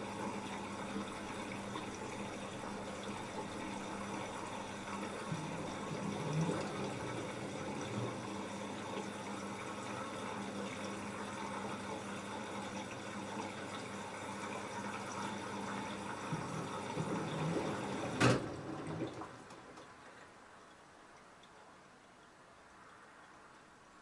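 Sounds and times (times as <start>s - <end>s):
water running through washing machine: 0.0s - 21.6s.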